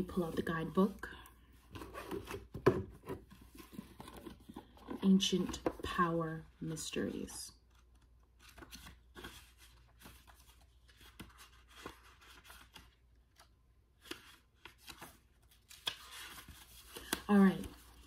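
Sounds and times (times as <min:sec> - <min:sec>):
paper pages rustling: 0:01.7 - 0:06.0, 0:07.6 - 0:18.0.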